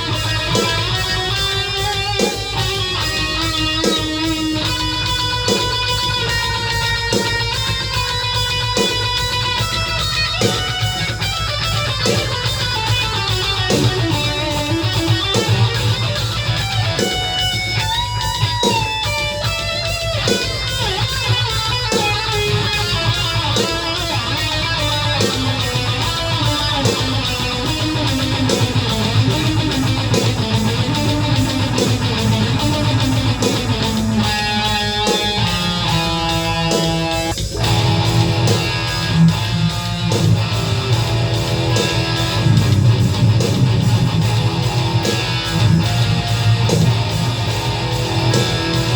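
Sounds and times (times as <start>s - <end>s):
distorted electric guitar riff: 0.0s - 48.9s
drum machine metal beat: 0.0s - 48.9s.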